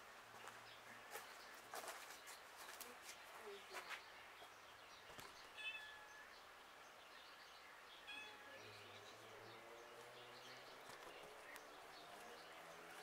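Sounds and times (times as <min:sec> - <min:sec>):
bird chirping: 0:00.3 - 0:13.0.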